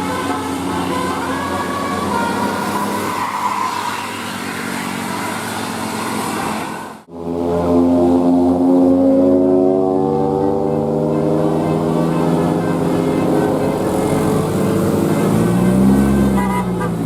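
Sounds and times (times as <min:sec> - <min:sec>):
bus engine accelerating: 0:00.0 - 0:17.0
bus engine and road noise: 0:00.0 - 0:17.0.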